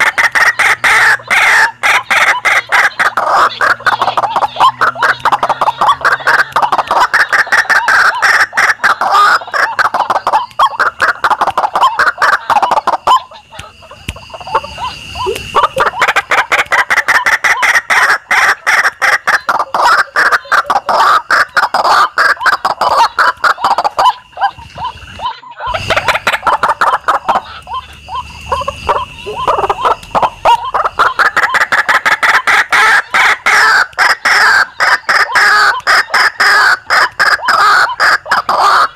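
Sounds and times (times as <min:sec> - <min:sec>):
waterhen harsh rapid croaking: 0:00.0 - 0:38.9.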